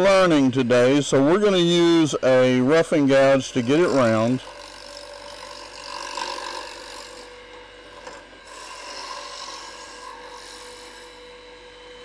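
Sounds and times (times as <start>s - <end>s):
wood lathe humming: 0.0s - 12.0s
gouge scraping spinning wood: 1.3s - 11.4s.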